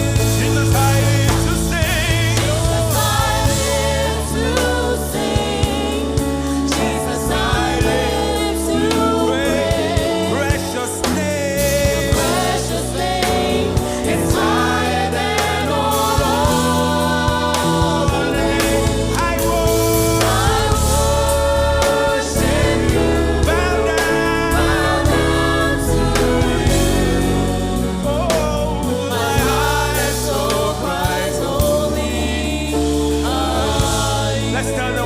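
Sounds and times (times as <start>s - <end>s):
gospel choir singing: 0.0s - 35.0s
live band with bass and drums: 0.0s - 35.0s.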